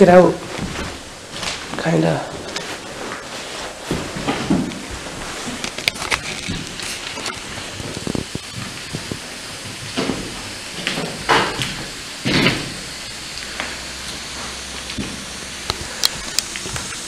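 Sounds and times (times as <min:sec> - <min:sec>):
water hissing from a leak: 0:00.0 - 0:17.0.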